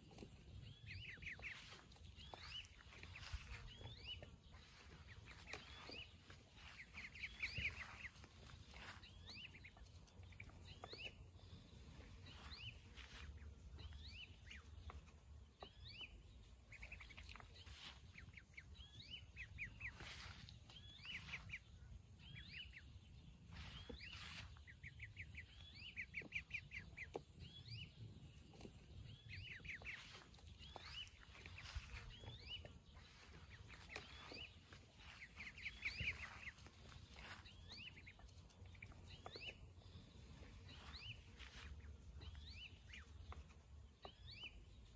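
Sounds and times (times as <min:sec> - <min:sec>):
ducklings peeping: 0:00.0 - 0:44.9
faint low rumble: 0:00.0 - 0:44.9.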